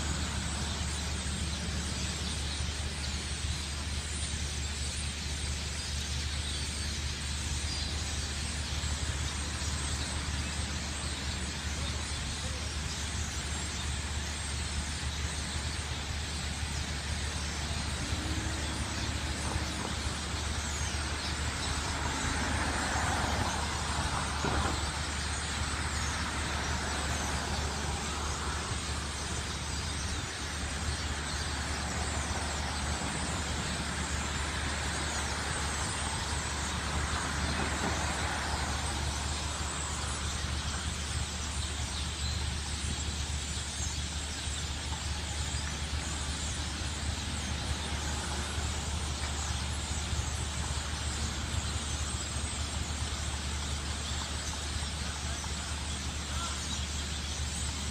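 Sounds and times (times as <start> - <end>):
road traffic rumble: 0.0 - 57.9.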